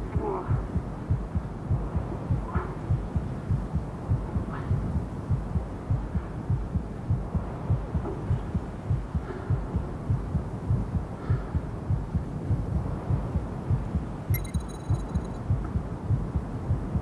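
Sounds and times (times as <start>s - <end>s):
low pounding heartbeat thumps: 0.0s - 17.0s.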